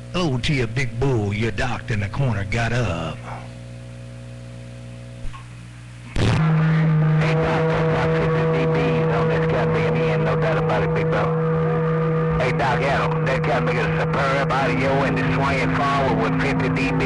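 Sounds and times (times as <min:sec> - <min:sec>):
buzzing radio transmission: 0:00.0 - 0:17.0.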